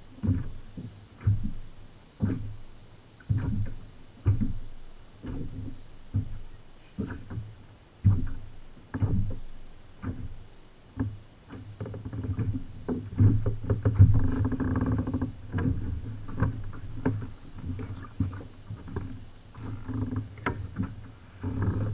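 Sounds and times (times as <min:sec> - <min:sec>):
knocks against kayak hull: 0:00.1 - 0:01.6, 0:03.3 - 0:04.6, 0:05.2 - 0:21.9.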